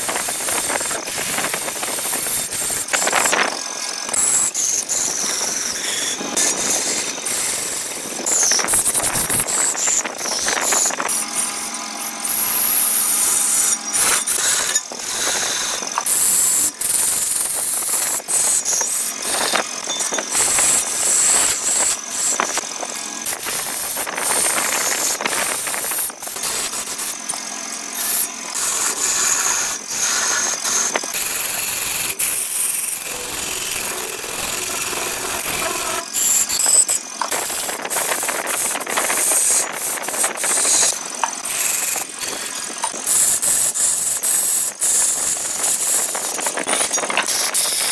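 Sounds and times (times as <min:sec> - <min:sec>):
gouge scraping wood on lathe: 0:00.0 - 0:47.9.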